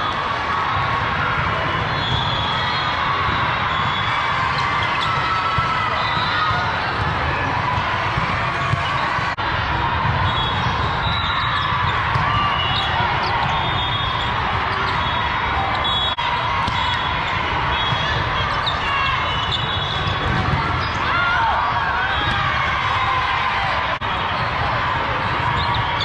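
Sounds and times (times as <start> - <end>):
many voices chattering: 0.0 - 26.0.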